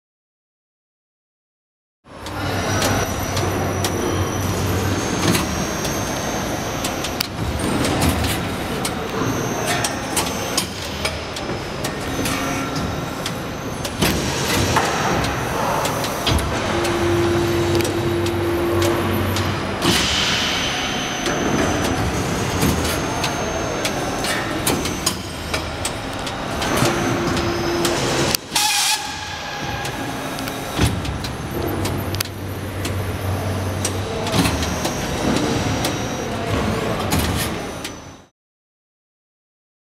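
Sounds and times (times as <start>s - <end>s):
machine hum: 2.1s - 38.3s.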